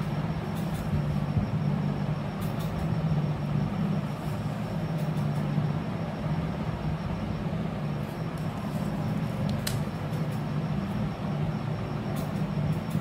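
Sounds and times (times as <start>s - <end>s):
machine hum and rumble: 0.0s - 13.0s.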